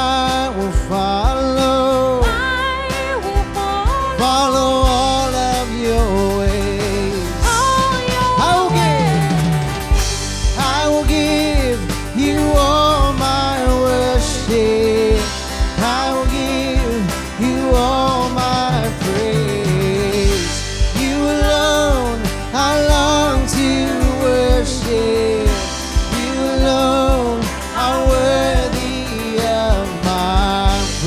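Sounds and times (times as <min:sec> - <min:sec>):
band playing worship music: 0:00.0 - 0:31.0.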